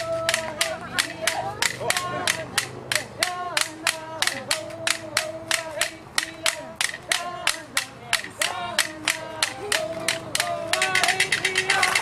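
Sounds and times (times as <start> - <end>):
sharp clacking beat: 0.0 - 12.0
voices singing long notes: 0.0 - 12.0.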